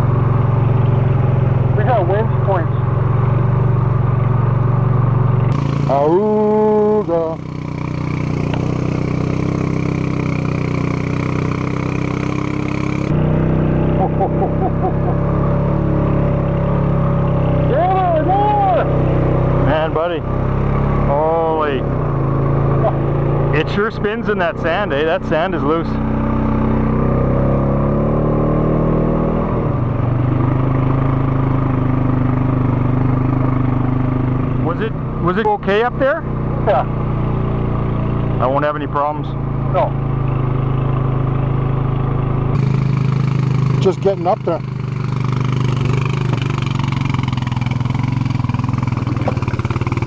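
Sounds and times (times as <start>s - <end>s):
atv engine running steadily: 0.0s - 50.0s.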